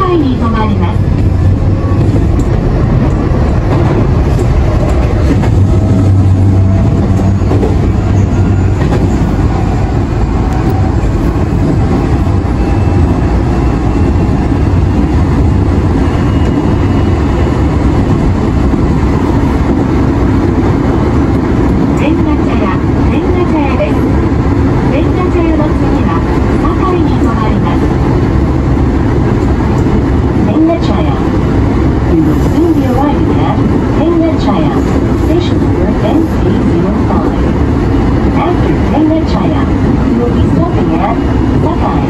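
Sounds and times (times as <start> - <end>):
train running gear rumble: 0.0 - 42.0.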